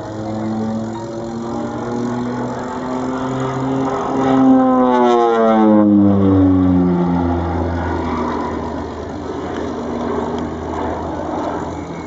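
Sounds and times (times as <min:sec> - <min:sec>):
propeller aircraft droning: 0:00.0 - 0:12.0.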